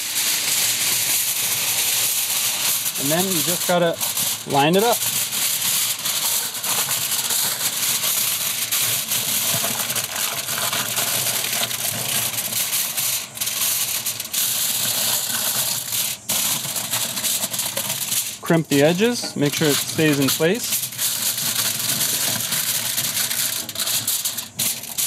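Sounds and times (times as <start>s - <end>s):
aluminum foil crinkling: 1.7s - 25.0s.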